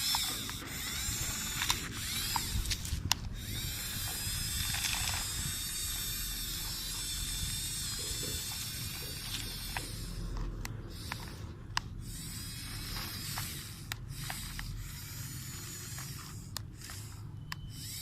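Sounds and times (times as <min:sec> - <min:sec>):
sharp clicks: 0:00.0 - 0:06.0, 0:08.6 - 0:18.0
electric motors whirring: 0:00.0 - 0:18.0.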